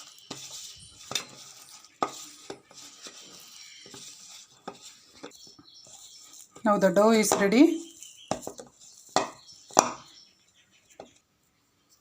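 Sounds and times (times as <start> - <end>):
wet dough stirring: 0.0 - 10.2.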